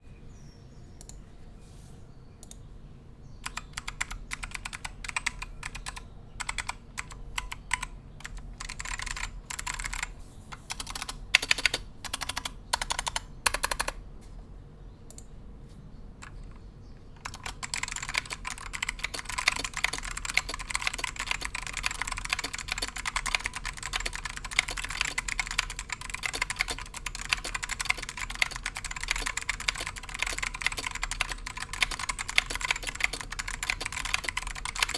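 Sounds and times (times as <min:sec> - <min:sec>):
clicky mechanical keyboard typing: 0:03.4 - 0:14.0, 0:16.2 - 0:34.9.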